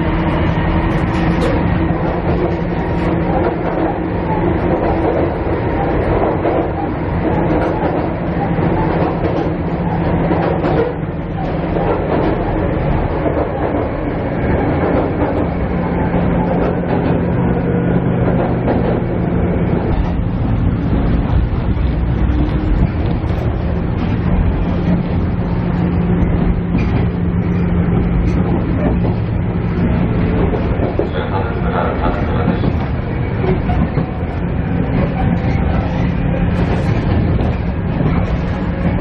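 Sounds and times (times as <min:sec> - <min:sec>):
diesel engine drone: 0:00.0 - 0:39.0
train wheels on rails: 0:00.0 - 0:39.0.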